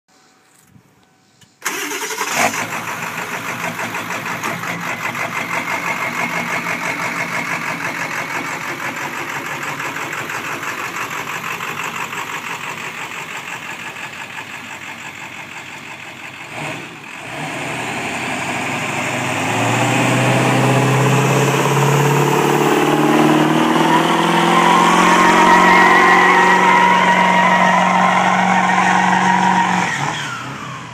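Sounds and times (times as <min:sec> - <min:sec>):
truck engine running: 0:01.6 - 0:30.9.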